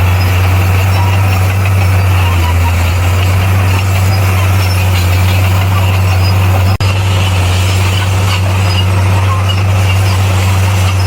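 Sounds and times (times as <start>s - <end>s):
bulldozer diesel engine droning: 0.0s - 11.0s.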